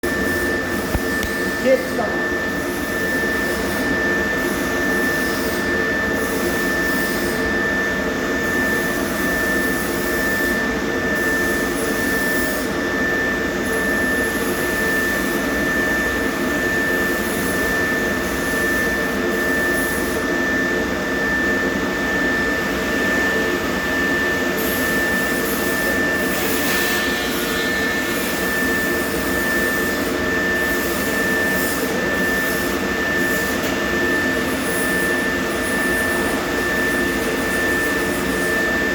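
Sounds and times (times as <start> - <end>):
high-pitched whine: 0.0 - 38.9.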